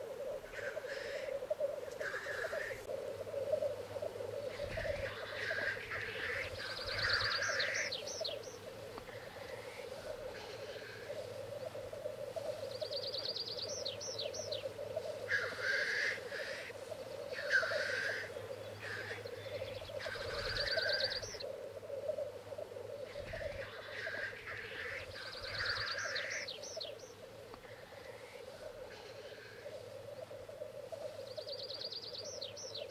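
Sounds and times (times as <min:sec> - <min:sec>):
grouse bubbling cooing: 0:00.0 - 0:32.9.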